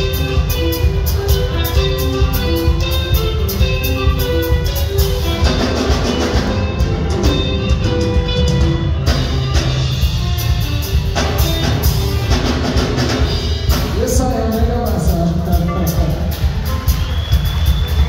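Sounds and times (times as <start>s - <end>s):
drum kit beat: 0.0s - 18.0s
electric guitars: 0.0s - 18.0s.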